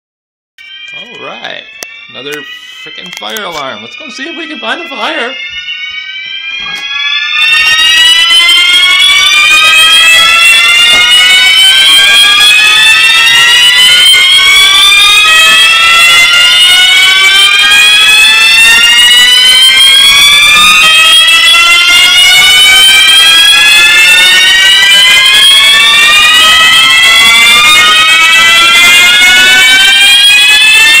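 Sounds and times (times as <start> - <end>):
fire alarm sweeping tone: 0.6 - 31.0.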